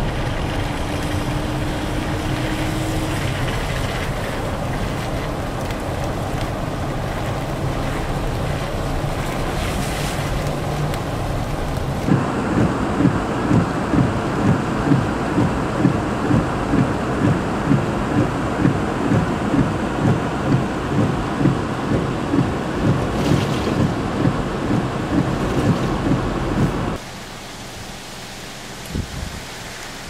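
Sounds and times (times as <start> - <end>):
heavy rain hissing: 0.0 - 16.6, 20.7 - 30.0.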